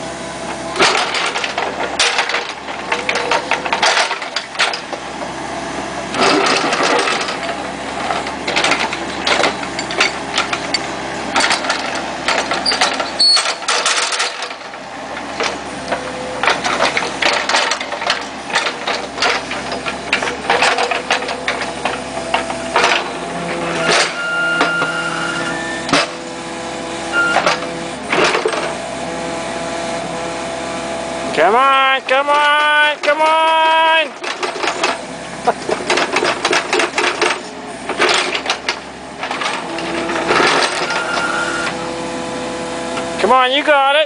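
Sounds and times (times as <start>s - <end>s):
diesel engine running under load: 0.0s - 44.0s.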